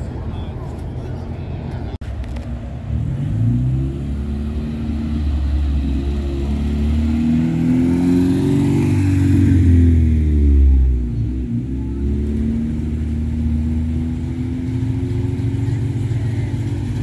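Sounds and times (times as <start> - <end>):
car engine accelerating: 2.2 - 17.0.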